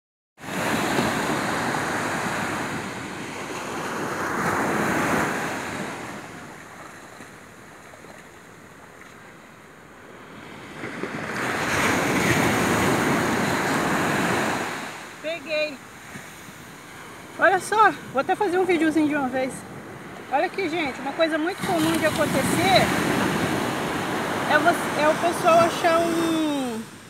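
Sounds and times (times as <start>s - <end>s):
waves breaking on sand: 0.4s - 27.0s.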